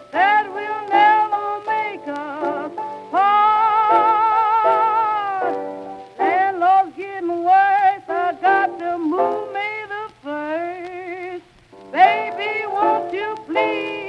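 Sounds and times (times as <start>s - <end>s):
blues music with vibrato lead: 0.0s - 14.0s.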